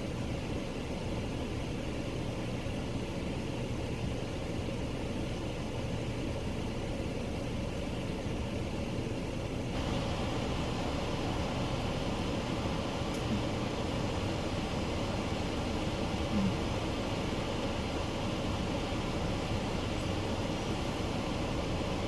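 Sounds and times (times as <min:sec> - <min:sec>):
car interior engine rumble: 0:00.0 - 0:22.0.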